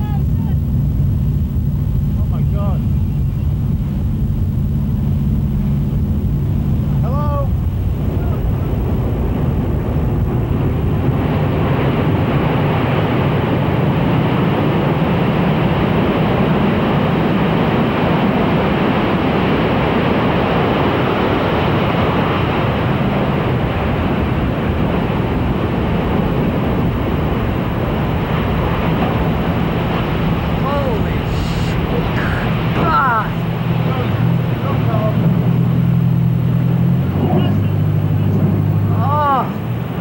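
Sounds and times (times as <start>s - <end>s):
boat engine hum: 0.0s - 40.0s
wind on microphone: 0.0s - 40.0s.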